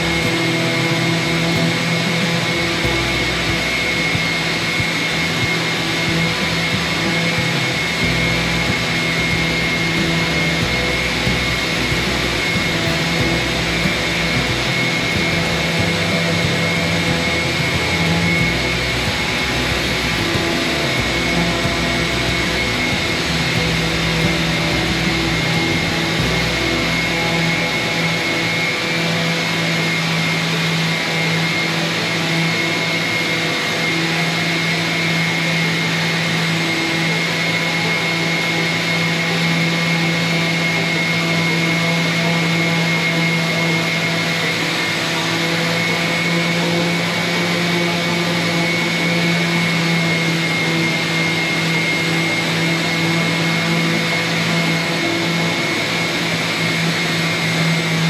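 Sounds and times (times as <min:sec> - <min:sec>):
small electric motor humming: 0:00.0 - 0:58.0.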